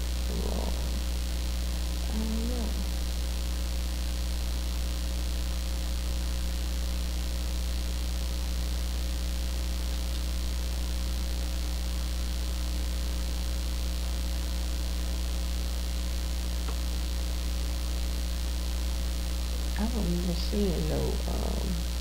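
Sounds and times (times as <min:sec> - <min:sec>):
mains hum: 0:00.0 - 0:22.0.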